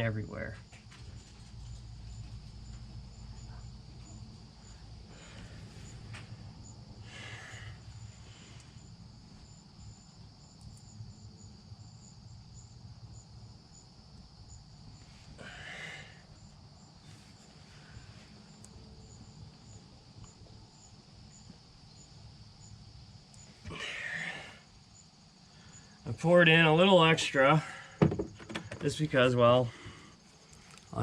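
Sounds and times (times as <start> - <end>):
low outdoor rumble: 0.0 - 28.0
insects chirping: 0.0 - 31.0.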